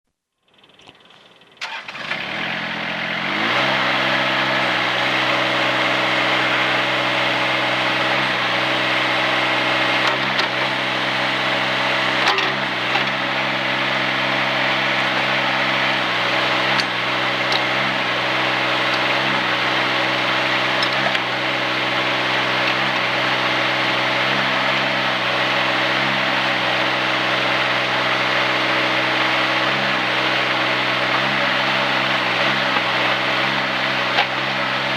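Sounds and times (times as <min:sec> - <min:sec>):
excavator engine starting and idling: 0:00.5 - 0:34.9.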